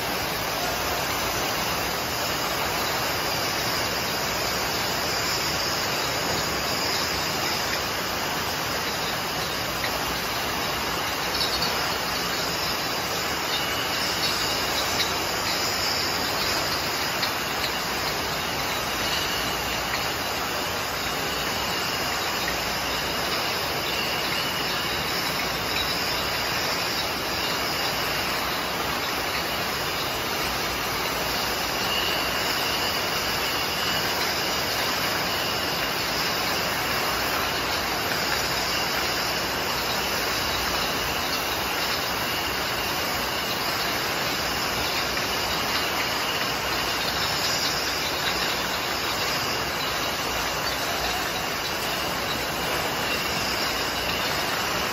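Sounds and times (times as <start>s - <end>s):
conveyor machinery running: 0.0s - 54.9s.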